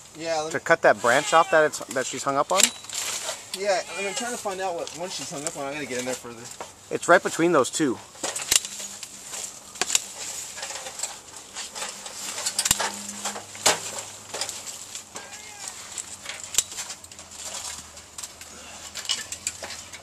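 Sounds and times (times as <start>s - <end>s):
branches and leaves rustling: 0.0s - 20.0s
loppers snapping branches: 1.1s - 6.6s, 8.0s - 20.0s.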